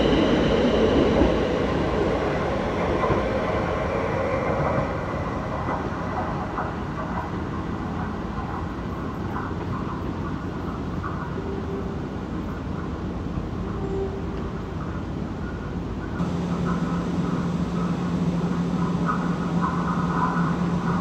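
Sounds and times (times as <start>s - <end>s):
electric train running along track: 0.0s - 21.0s.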